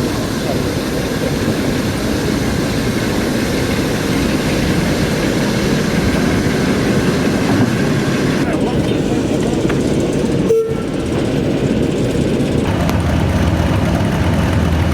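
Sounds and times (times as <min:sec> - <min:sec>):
diesel locomotive engine rumbling: 0:00.0 - 0:14.9.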